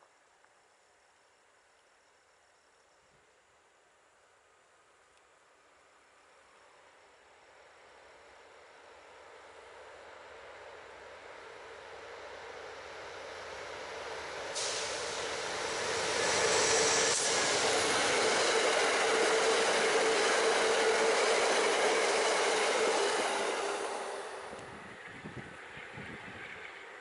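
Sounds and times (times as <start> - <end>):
train wheel and rail noise: 5.3 - 27.0.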